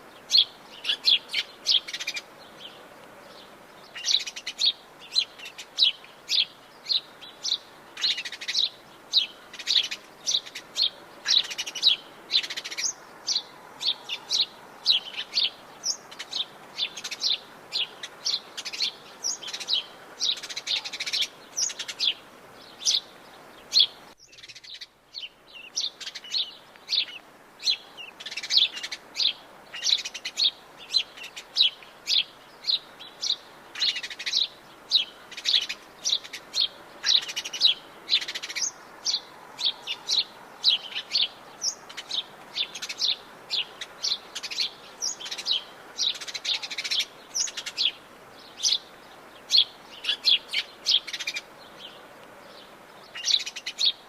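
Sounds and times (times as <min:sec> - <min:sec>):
birds chirping: 0:00.0 - 0:54.0
faint steady hiss: 0:00.0 - 0:54.0.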